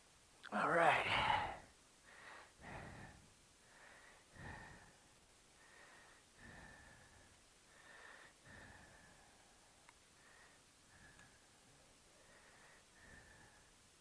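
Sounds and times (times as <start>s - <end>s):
faint breathing: 0.5s - 14.0s.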